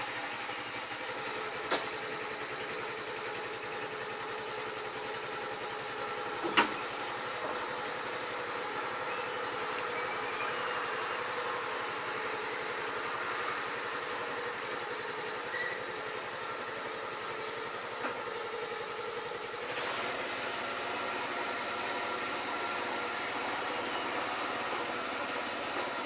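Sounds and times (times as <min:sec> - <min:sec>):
farm machine engine idling: 0:00.0 - 0:26.0.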